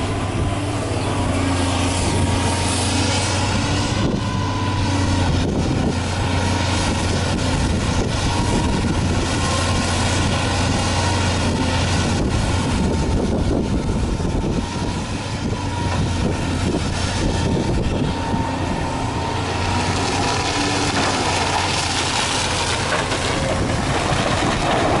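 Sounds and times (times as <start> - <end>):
excavator diesel engine: 0.0 - 25.0.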